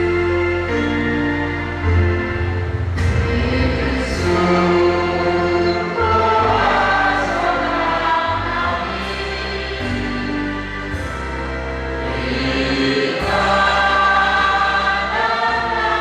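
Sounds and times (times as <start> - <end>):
instrumental accompaniment: 0.0 - 16.0
group of voices singing: 3.0 - 16.0.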